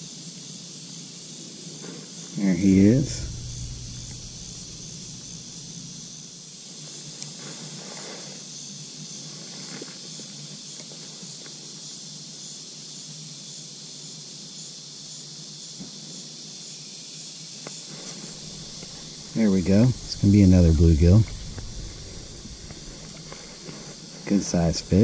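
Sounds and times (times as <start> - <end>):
insect chorus buzzing: 0.0 - 6.6, 8.0 - 25.0.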